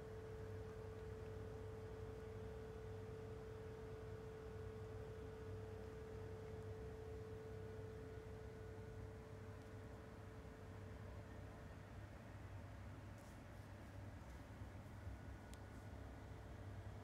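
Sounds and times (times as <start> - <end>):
desk fan humming: 0.0 - 17.0.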